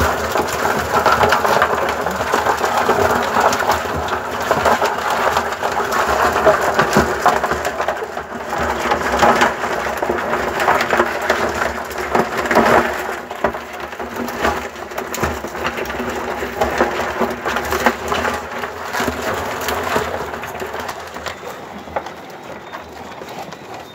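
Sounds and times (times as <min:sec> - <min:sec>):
crabs clattering in plastic bucket: 0:00.0 - 0:23.9.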